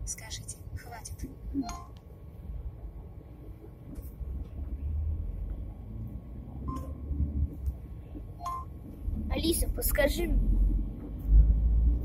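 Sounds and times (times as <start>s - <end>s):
vehicle rumble from inside cabin: 0.0s - 12.0s.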